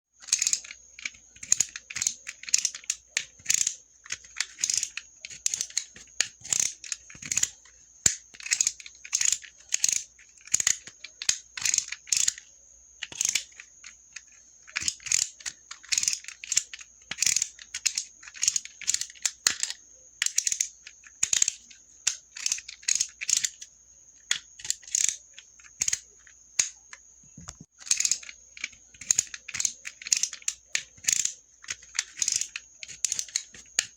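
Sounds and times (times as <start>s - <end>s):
utility knife ratcheting clicks: 0.2s - 12.4s, 13.0s - 23.7s, 24.3s - 26.9s, 27.8s - 33.9s.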